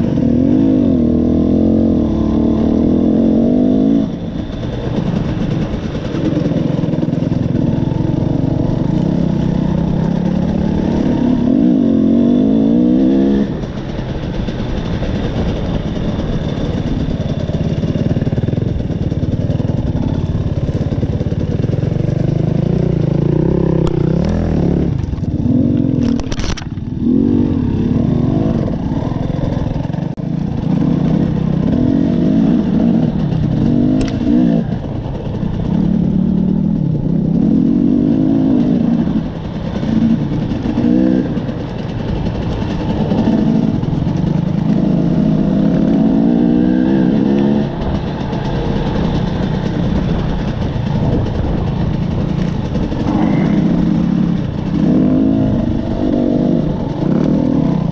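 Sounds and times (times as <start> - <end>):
dirt bike engine revving: 0.0 - 13.9, 17.2 - 57.9.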